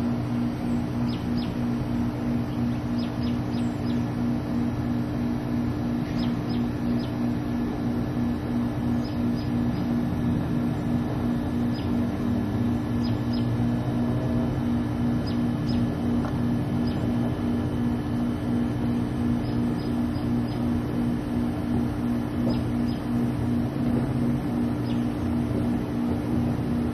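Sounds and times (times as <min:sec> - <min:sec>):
pulsing machine hum: 0:00.0 - 0:26.9.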